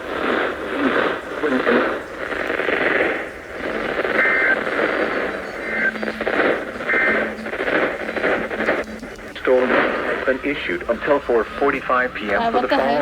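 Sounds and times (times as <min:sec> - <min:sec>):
radio static hiss: 0:00.0 - 0:13.0
two-tone digital data bursts: 0:00.2 - 0:11.5.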